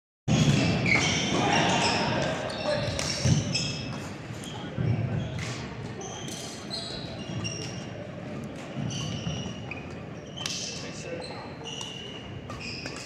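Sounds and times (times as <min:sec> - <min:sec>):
sports shoes squeaking: 0:00.3 - 0:13.0
murmur of voices echoing: 0:00.4 - 0:12.5.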